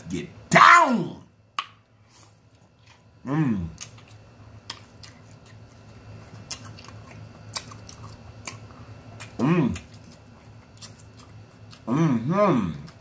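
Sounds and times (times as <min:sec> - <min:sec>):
person chewing: 0:02.1 - 0:13.0.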